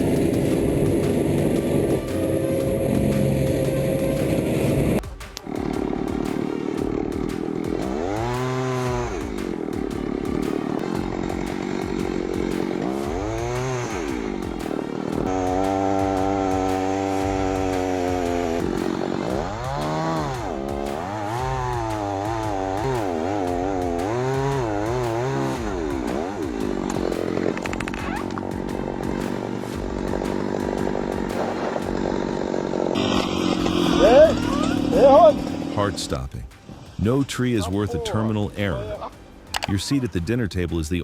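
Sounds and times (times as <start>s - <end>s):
chainsaw engine revving: 0.0s - 37.0s.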